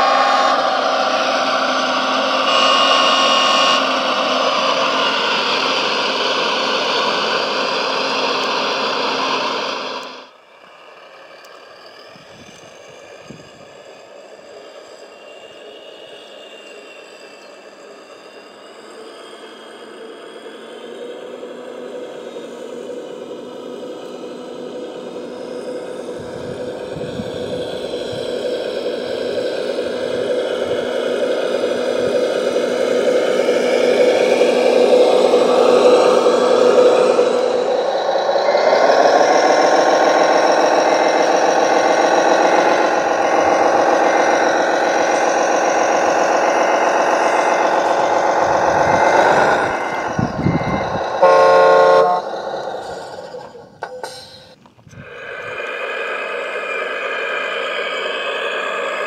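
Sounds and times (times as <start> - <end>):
model truck motors whirring: 0.0 - 59.0.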